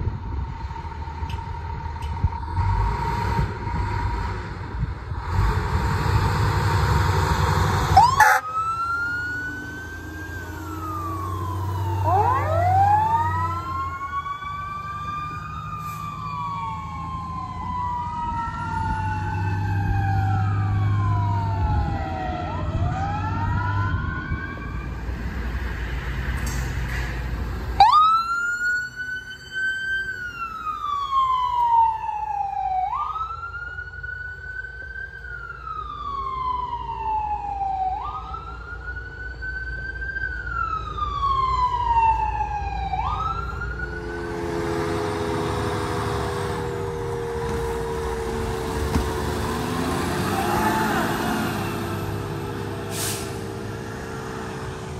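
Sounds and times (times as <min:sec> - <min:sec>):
road noise: 0:00.0 - 0:54.9
vehicle engine drone: 0:00.0 - 0:54.9
emergency siren wailing: 0:06.2 - 0:25.8, 0:27.6 - 0:54.9.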